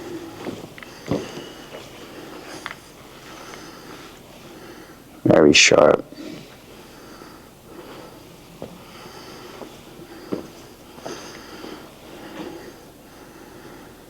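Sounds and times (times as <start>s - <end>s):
soft sniffs or breaths: 0.0s - 5.2s, 6.1s - 14.0s.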